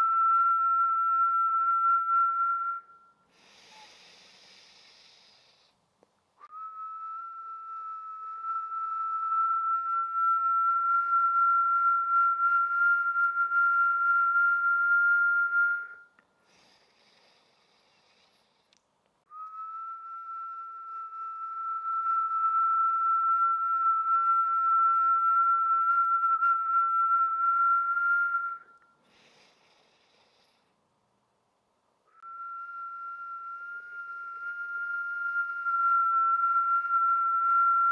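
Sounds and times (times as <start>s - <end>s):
person whistling long note: 0.0s - 5.6s, 6.4s - 18.5s, 19.3s - 30.6s, 32.1s - 37.9s.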